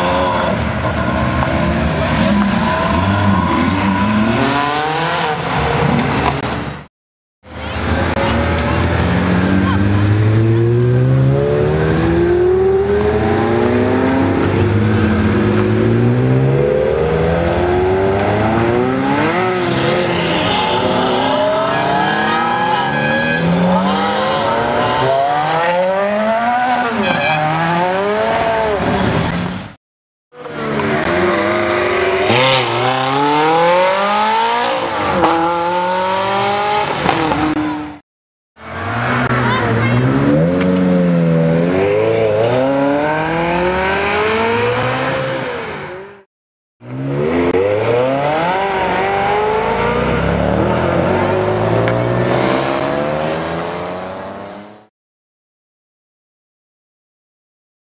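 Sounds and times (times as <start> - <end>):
sports car engines revving: 0.0 - 6.7, 7.5 - 29.6, 30.4 - 38.0, 38.6 - 54.9.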